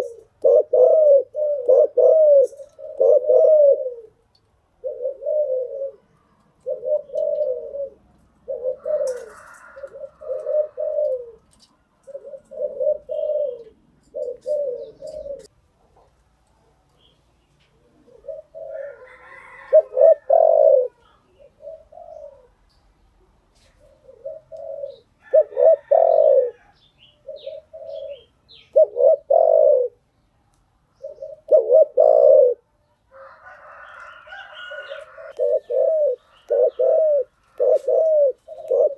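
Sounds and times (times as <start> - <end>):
dove cooing: 0.0 - 15.5, 17.6 - 22.7, 23.3 - 30.1, 30.9 - 38.9.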